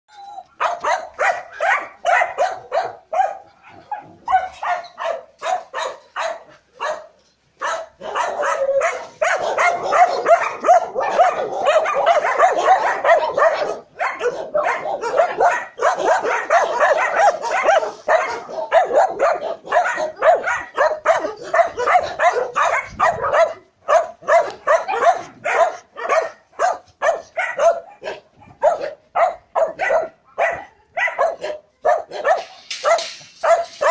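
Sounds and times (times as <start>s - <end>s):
dogs barking rapidly: 0.6s - 33.9s.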